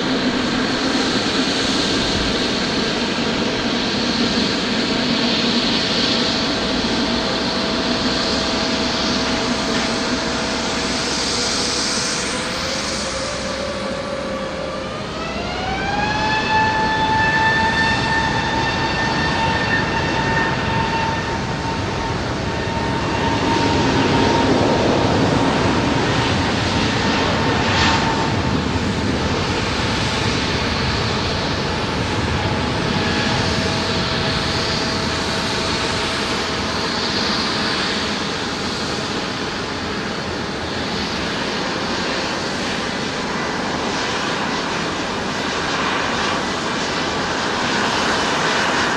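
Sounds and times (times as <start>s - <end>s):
jet engine whine: 0.0s - 48.9s
loud jet engine rushing: 0.0s - 48.9s.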